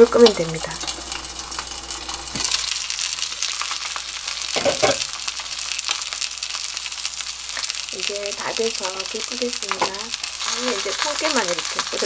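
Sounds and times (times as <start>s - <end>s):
fish sizzling in frying pan: 0.0s - 12.0s.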